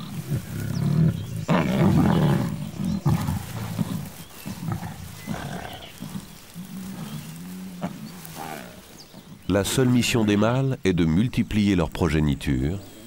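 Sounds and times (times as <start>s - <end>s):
lion growling: 0.0s - 11.2s.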